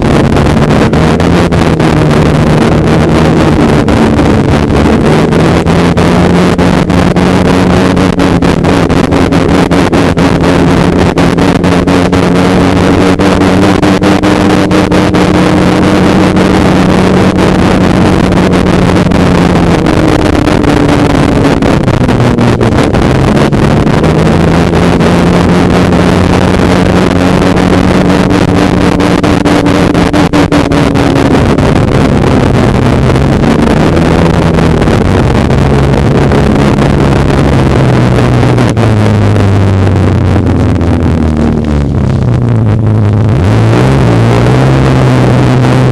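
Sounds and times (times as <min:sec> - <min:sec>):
snowmobile engine running: 0:00.0 - 0:45.9.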